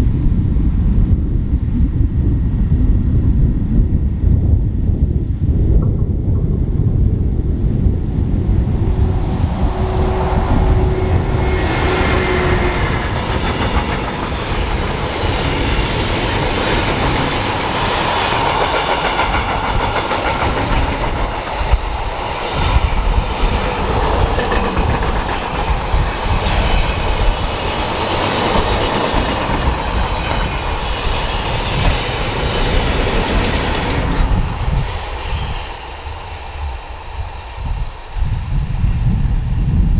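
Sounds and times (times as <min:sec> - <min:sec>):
wind buffeting microphone: 0:00.0 - 0:39.9
train passing at speed: 0:02.2 - 0:39.9.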